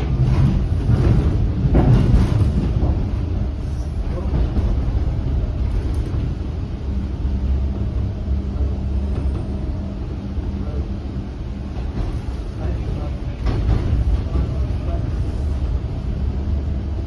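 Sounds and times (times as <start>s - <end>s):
low steady hum: 0.0s - 17.0s
subway wheels rumbling on rail: 0.0s - 17.0s.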